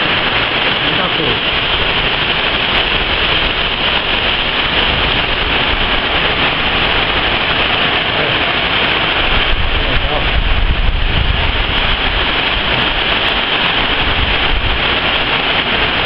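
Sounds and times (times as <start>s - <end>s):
heavy rain pouring: 0.0s - 16.0s
low rumble of wind: 0.0s - 16.0s.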